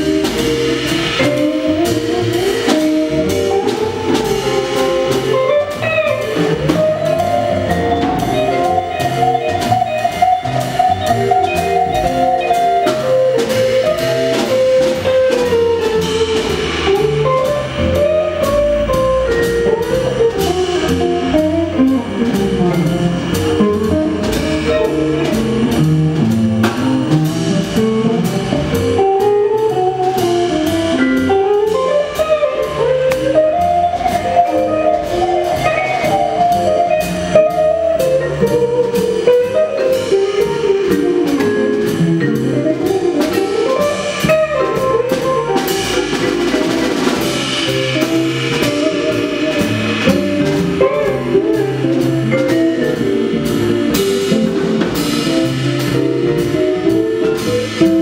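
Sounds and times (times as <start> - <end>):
drum kit with cymbal strokes: 0.0 - 58.0
electric guitar melody: 0.0 - 58.0.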